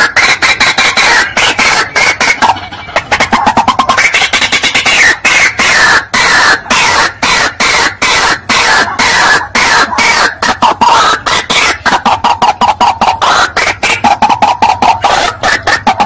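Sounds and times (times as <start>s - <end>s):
bird calling with rasping croaks: 0.0s - 16.0s.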